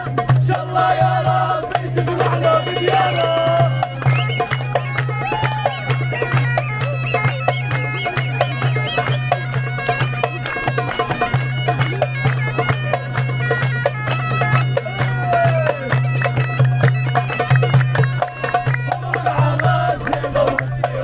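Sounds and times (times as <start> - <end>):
bagpipe playing folk dance tune: 0.0 - 20.1
hands clapping: 2.1 - 20.7.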